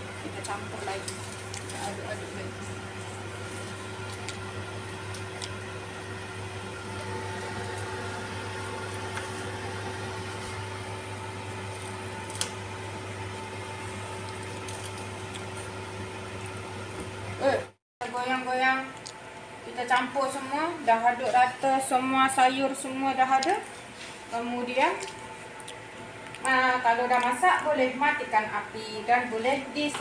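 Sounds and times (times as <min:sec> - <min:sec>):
constant machine hum: 0:00.0 - 0:30.0.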